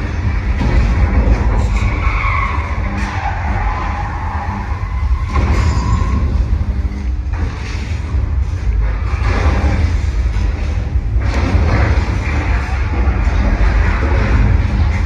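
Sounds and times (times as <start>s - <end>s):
heavy low rumble: 0.0s - 15.0s.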